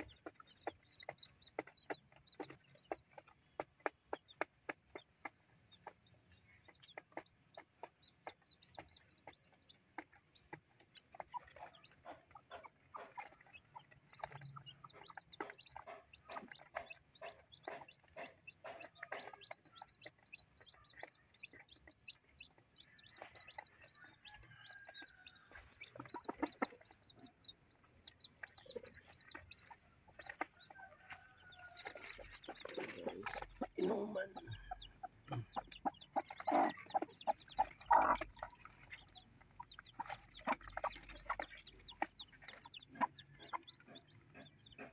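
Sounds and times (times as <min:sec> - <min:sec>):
chicks pecking grain on cardboard: 0:00.0 - 0:44.9
chicks peeping: 0:00.0 - 0:44.9
hen clucking: 0:00.0 - 0:44.9.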